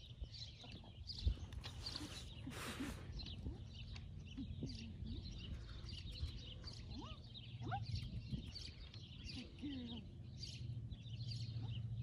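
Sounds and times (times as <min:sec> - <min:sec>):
birds chirping: 0:00.0 - 0:12.0
steady low rumble: 0:00.0 - 0:12.0.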